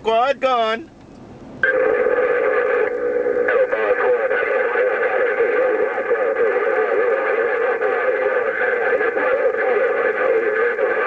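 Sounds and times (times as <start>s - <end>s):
garbled distant radio voices: 1.6s - 11.0s
radio band noise: 1.6s - 11.0s.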